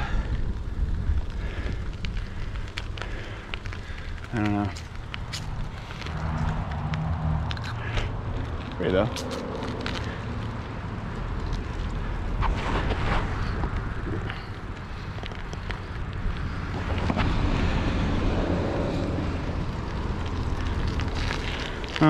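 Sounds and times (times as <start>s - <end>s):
bicycle tyre and road noise: 0.0s - 22.0s
wind rushing over microphone: 0.0s - 22.0s.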